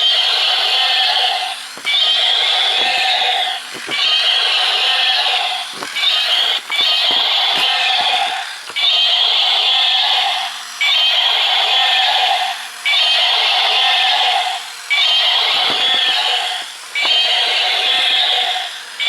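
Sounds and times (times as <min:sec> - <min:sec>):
toy dinosaur roar from speaker: 0:00.0 - 0:19.0.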